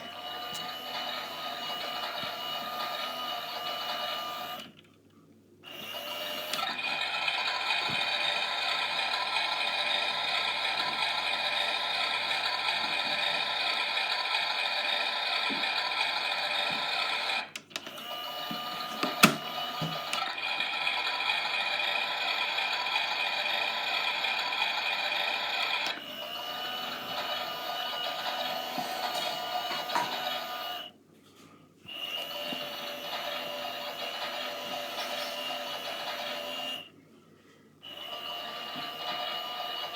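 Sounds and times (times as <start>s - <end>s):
washing machine motor hum: 0.0s - 4.6s, 5.7s - 30.9s, 31.9s - 36.9s.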